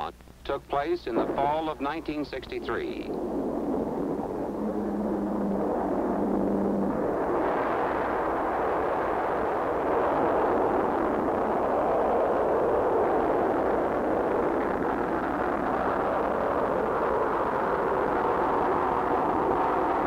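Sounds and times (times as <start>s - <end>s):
rocket engine rumble: 0.0s - 20.0s.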